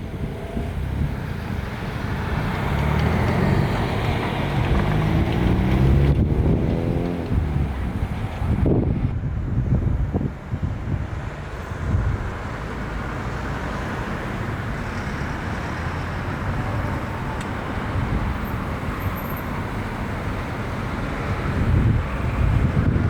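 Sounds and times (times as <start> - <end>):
wind buffeting microphone: 0.0 - 13.7, 14.4 - 23.0.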